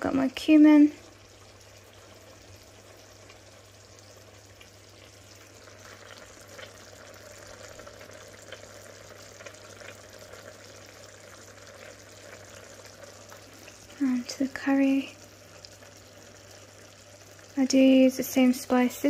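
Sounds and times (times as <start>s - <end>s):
low steady hum: 0.0s - 19.0s
sauce bubbling and sizzling: 0.0s - 19.0s.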